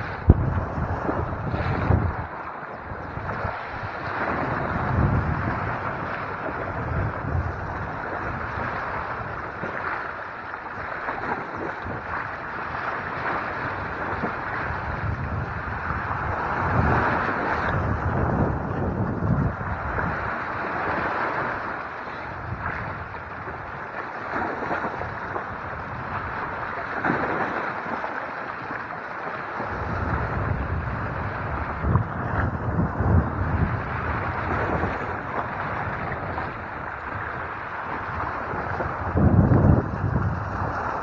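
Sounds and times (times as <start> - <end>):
waves splashing against rocks: 0.0 - 41.0
wind noise on microphone: 0.0 - 41.0.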